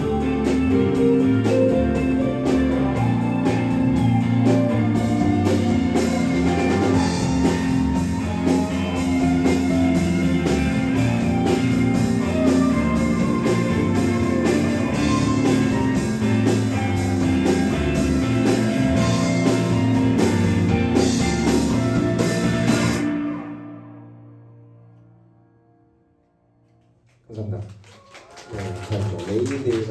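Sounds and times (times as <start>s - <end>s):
live rock band playing: 0.0s - 24.6s.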